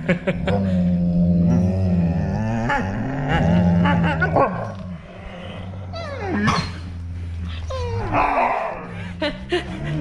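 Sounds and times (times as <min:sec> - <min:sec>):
dogs growling: 0:00.1 - 0:10.0.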